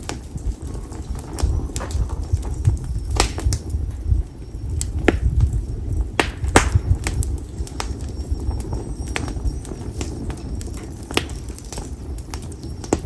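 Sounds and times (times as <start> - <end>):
firewood crackling and popping: 0.0 - 13.0
low rumble of fire: 0.0 - 13.0.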